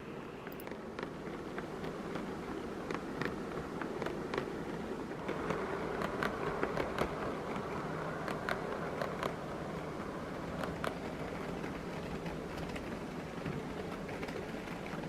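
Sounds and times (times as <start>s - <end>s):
model locomotive buzzing hum: 0.0s - 15.0s.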